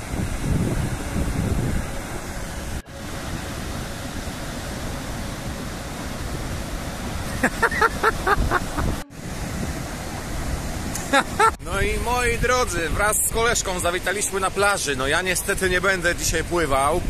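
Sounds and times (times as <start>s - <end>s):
sea surf breaking: 0.0s - 17.0s.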